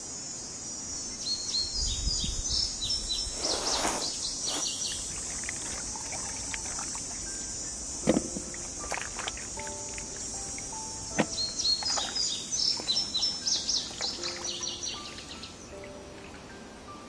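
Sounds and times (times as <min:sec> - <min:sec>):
high insect hum: 0:00.0 - 0:17.0
small birds chirping: 0:00.0 - 0:17.0.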